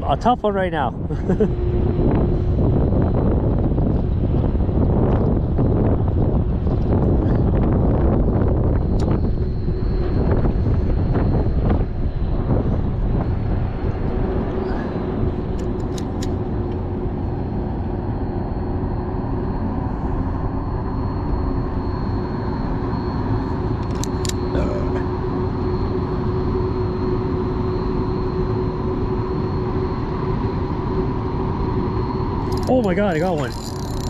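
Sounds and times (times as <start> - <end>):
wind rumble on microphone: 0.0 - 34.0
engine humming: 1.0 - 34.0.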